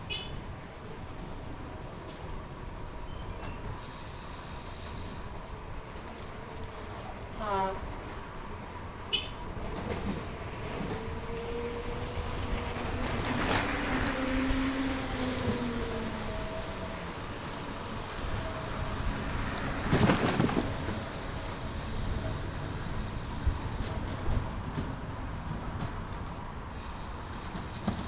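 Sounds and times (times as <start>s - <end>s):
traffic rumble: 0.0s - 28.0s
bicycle riding noise: 3.8s - 28.0s.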